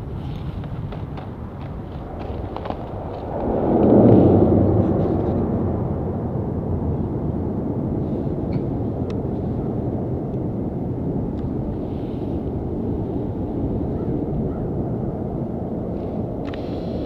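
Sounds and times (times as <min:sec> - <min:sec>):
distant jet airliner rumble: 0:00.0 - 0:17.0.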